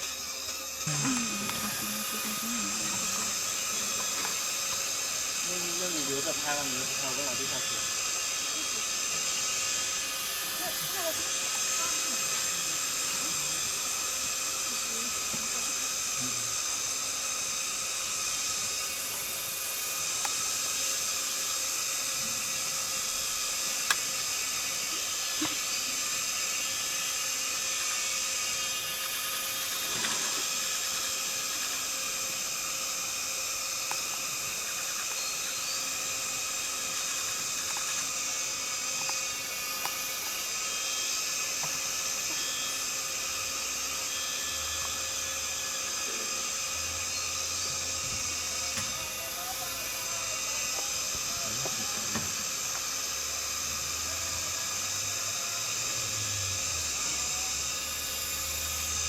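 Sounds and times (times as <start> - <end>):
cicada chorus buzzing: 0.0 - 59.0.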